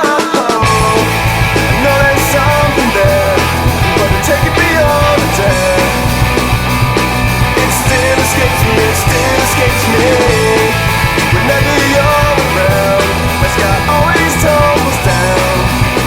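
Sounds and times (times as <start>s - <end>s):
rock band instrumental: 0.0s - 16.0s
lead guitar with bent notes: 0.6s - 16.0s.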